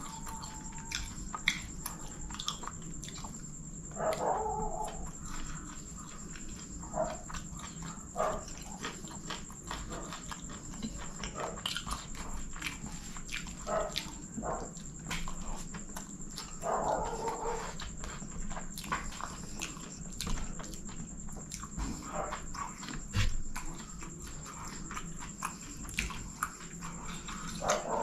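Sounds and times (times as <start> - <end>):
chewing and lip-smacking: 0.0 - 28.0.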